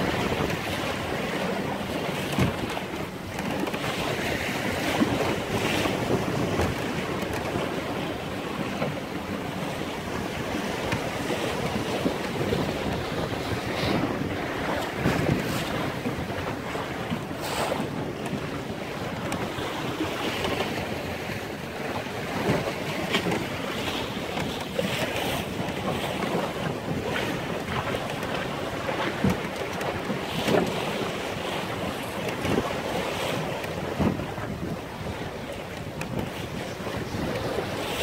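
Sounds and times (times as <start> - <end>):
water rushing along hull: 0.0 - 38.0
wind buffeting microphone: 0.0 - 38.0.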